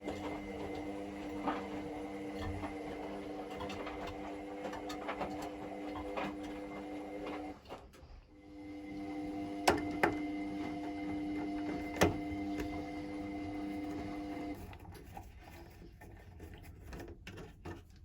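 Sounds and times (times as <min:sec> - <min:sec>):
washing machine motor humming: 0:00.0 - 0:14.7.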